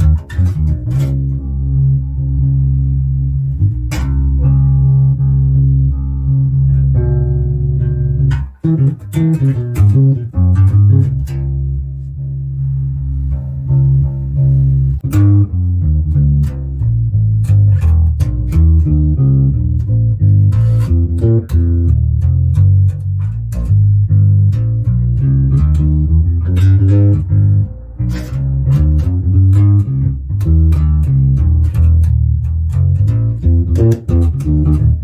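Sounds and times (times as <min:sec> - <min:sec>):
electric bass funk groove: 0:00.0 - 0:35.0.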